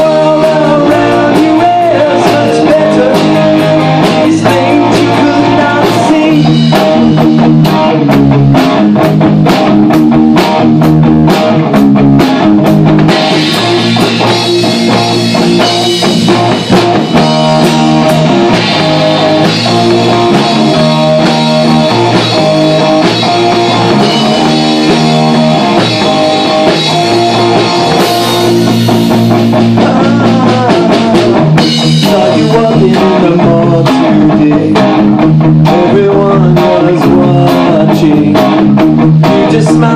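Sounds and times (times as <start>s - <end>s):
bass guitar: 0.0s - 39.9s
drum kit steady beat: 0.0s - 39.9s
electric guitar: 0.0s - 39.9s.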